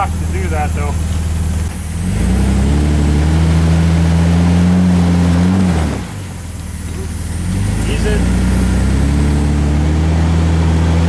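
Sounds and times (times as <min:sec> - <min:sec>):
engine at raised revs: 0:00.0 - 0:11.0.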